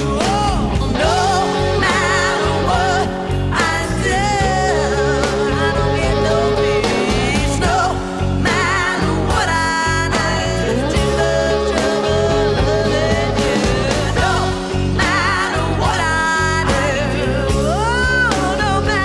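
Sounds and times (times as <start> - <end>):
blues band playing: 0.0 - 19.0.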